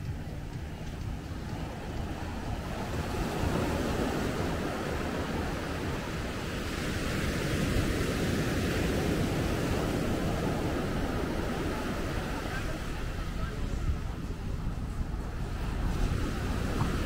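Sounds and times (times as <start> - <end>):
surf washing on beach: 0.0 - 17.0
wind: 0.0 - 17.0.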